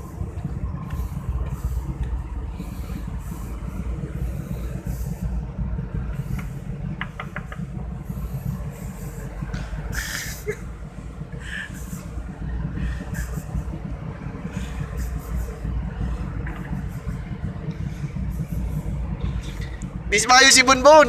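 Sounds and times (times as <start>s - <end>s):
ship engine hum: 0.0s - 21.0s.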